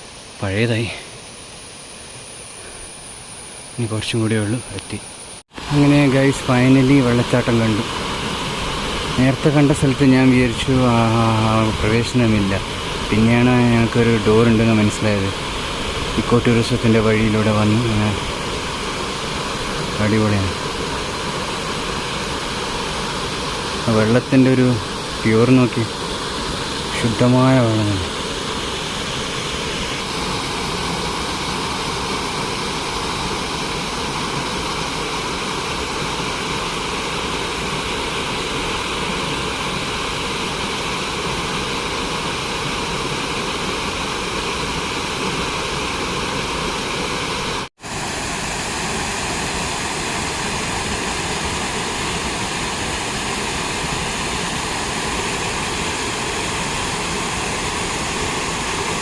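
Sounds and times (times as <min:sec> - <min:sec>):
waterfall rushing: 0:05.5 - 0:59.0.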